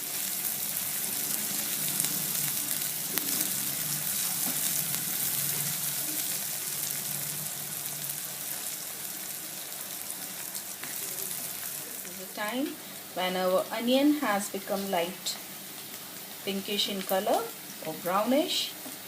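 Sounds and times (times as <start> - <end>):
onion and chillies sizzling in oil: 0.0 - 19.0.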